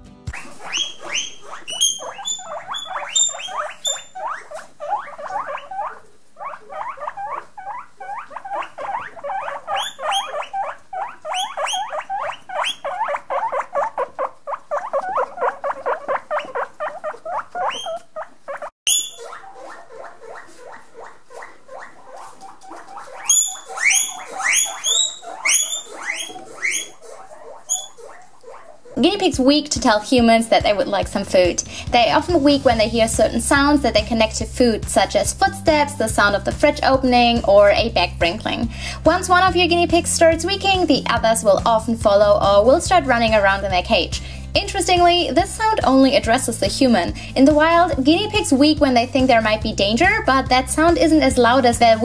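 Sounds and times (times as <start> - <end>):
guinea pigs wheeking: 0.3 - 52.0.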